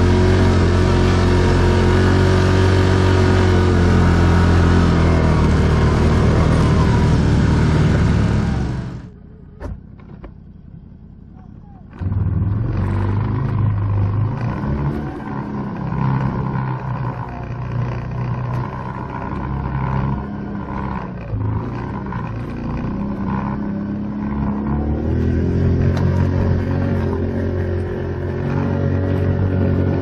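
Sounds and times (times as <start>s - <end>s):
atv engine revving: 0.0s - 9.5s, 11.7s - 30.0s.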